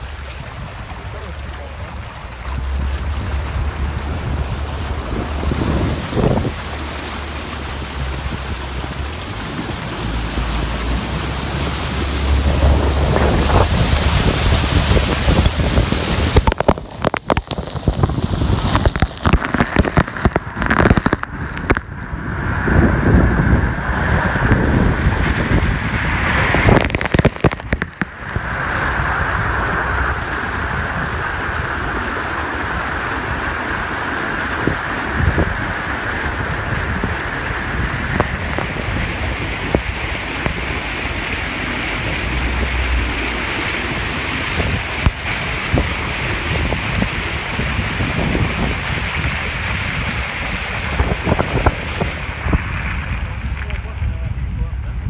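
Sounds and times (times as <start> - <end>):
water spraying off vehicle wheels: 0.0 - 54.0.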